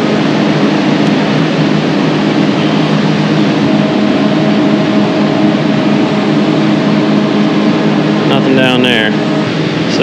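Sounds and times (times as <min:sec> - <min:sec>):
air compressor droning: 0:00.0 - 0:10.0.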